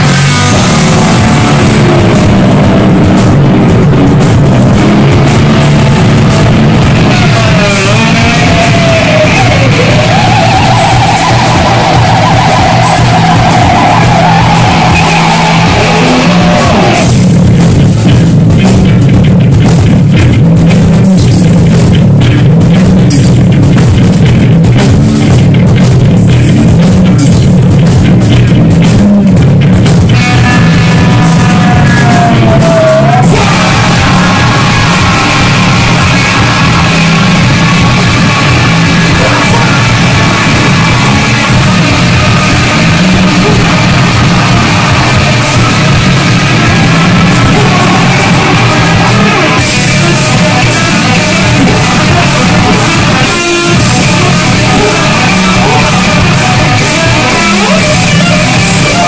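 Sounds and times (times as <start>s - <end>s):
ringing electric guitar notes: 0.0s - 27.4s, 28.2s - 59.0s
busy drumming: 0.0s - 59.0s
heavy metal band playing: 0.0s - 59.0s.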